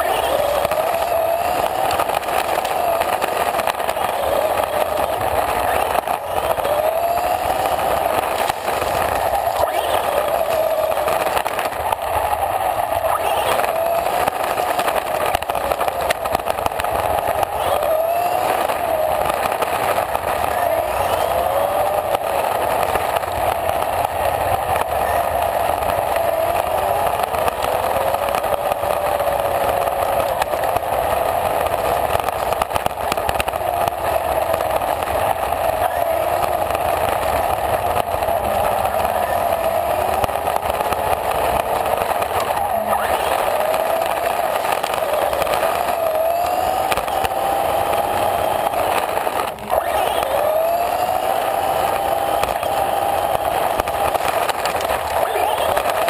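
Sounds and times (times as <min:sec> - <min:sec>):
toy car motor whining: 0:00.0 - 0:56.0
tyres rumbling on gravelly asphalt: 0:00.0 - 0:56.0.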